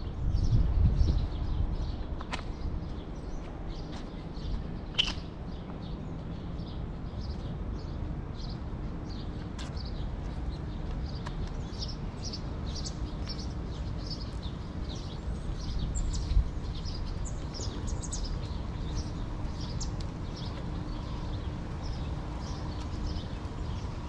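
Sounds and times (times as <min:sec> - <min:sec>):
small birds chirping: 0:00.2 - 0:24.0.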